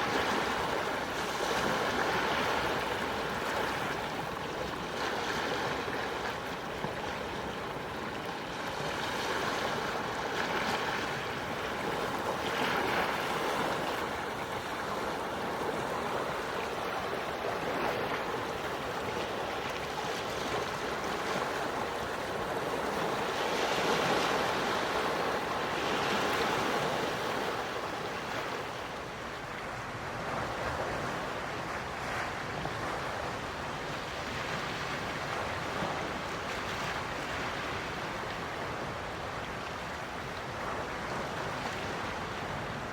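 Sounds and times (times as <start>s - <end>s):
sea waves washing ashore: 0.0s - 42.9s.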